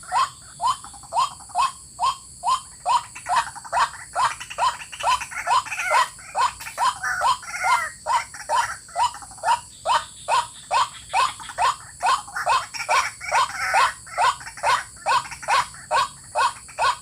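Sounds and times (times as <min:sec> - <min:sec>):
waterhen croaking calls: 0:00.0 - 0:17.0.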